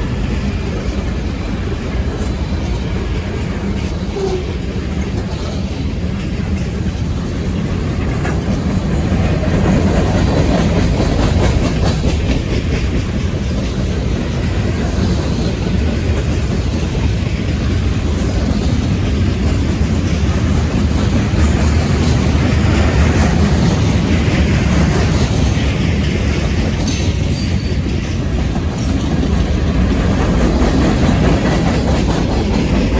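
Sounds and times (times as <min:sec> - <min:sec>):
freight train rolling past: 0:00.0 - 0:32.9
steel wheels clacking on rails: 0:00.0 - 0:32.9.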